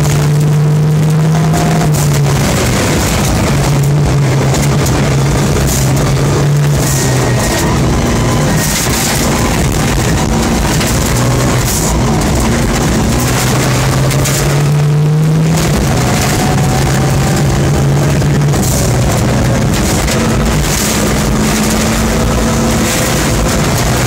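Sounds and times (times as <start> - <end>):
rally car engine revving: 0.0 - 24.0
tyres on gravel: 0.0 - 24.0.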